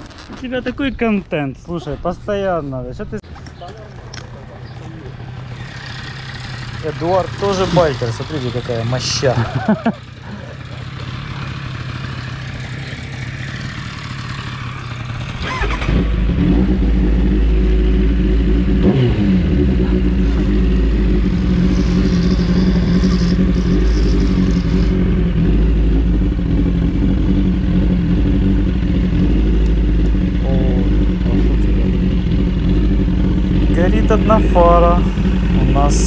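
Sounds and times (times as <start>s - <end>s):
motorcycle engine running: 3.4s - 36.0s
motorcycle engine starting: 4.0s - 36.0s.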